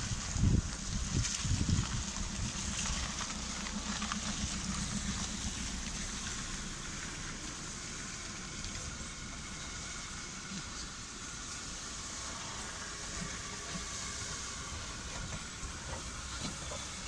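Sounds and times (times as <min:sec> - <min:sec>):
locomotive low rumble: 0:00.0 - 0:17.0
steam hissing: 0:00.0 - 0:17.0.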